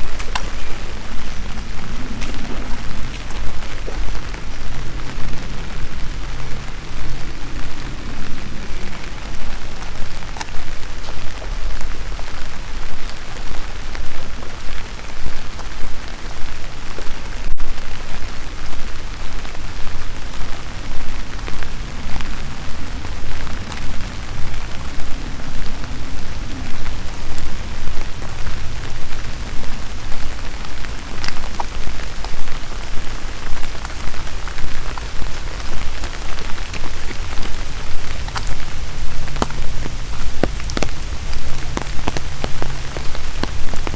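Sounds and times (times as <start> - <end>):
constant low rumble: 0.0 - 43.9
rain drops ticking: 0.0 - 43.9.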